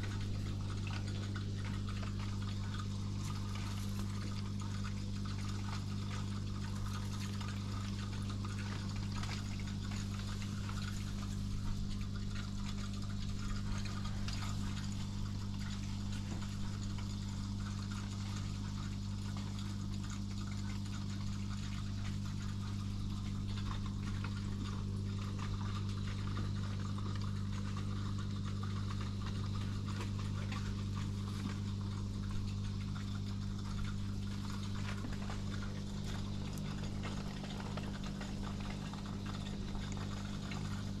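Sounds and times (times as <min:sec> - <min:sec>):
aquarium pump humming: 0:00.0 - 0:41.0
water bubbling and trickling: 0:00.0 - 0:41.0.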